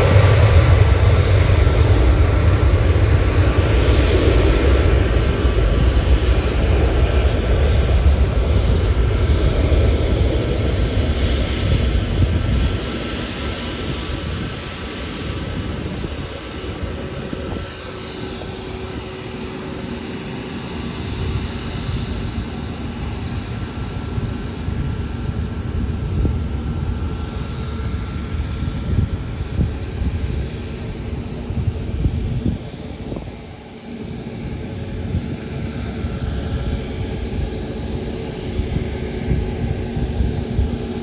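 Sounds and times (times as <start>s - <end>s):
jet airliner engines passing: 0.0s - 41.0s.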